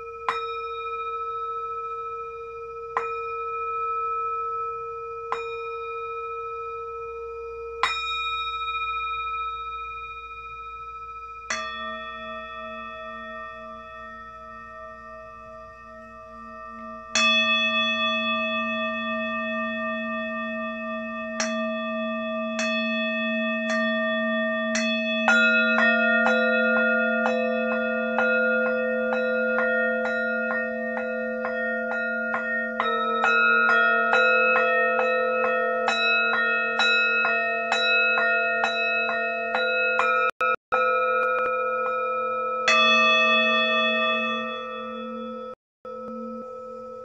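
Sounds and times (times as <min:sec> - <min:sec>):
singing bowls ringing: 0:00.0 - 0:47.0.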